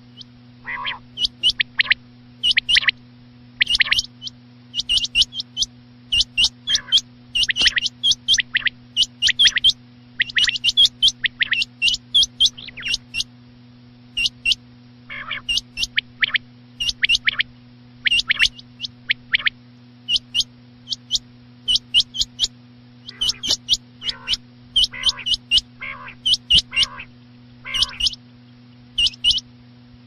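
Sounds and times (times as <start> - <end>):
quail calls: 0.0 - 3.0, 3.6 - 13.3, 14.2 - 19.5, 20.1 - 28.2, 29.0 - 29.4
low hum: 0.0 - 30.0.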